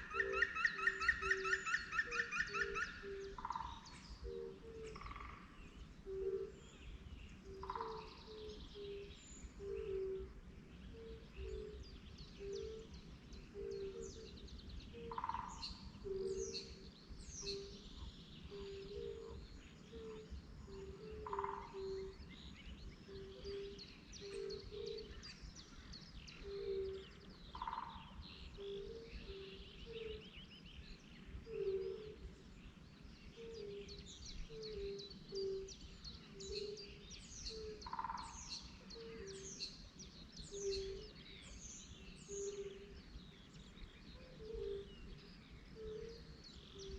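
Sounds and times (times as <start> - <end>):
birds singing and chirping: 0.0 - 46.9.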